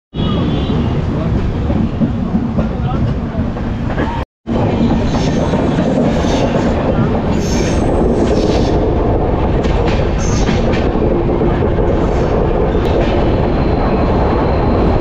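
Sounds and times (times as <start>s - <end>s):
train wheels rumbling on rails: 0.2s - 15.0s.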